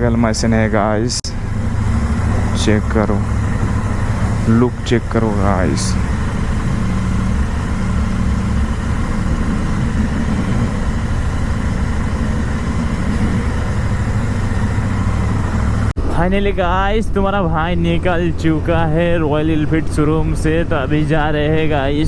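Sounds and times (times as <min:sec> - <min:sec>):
motorcycle engine idling: 0:00.1 - 0:22.0.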